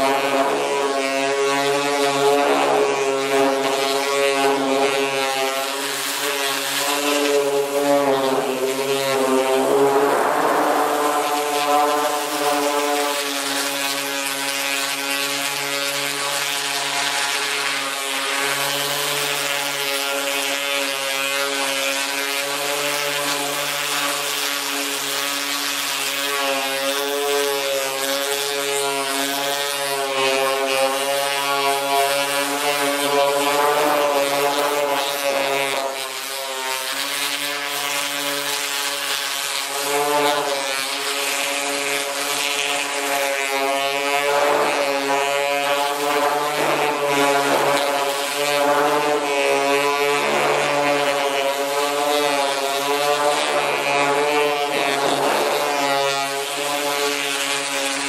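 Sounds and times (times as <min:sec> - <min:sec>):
orbital sander on metal: 0:00.0 - 0:58.0.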